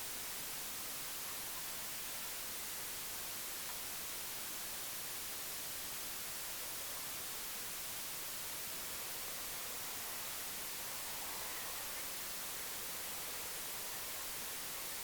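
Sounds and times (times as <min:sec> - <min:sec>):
steady static hiss: 0:00.0 - 0:15.0.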